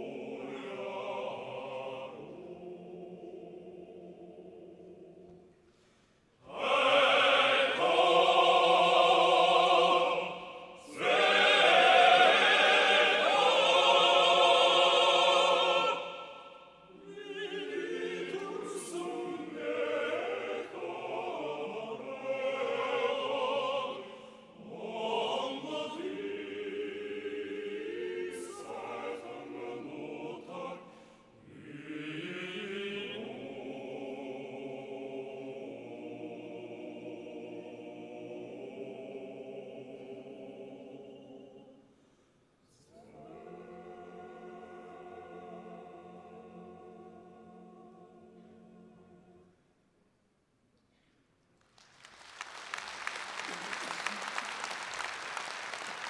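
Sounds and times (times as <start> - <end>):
male choir singing: 0.0 - 5.4, 6.4 - 41.8, 42.8 - 49.4.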